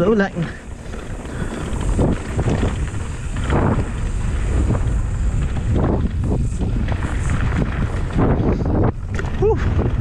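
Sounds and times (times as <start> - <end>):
bike tyres rumbling on dirt: 0.0 - 10.0
wind buffeting microphone: 0.0 - 10.0.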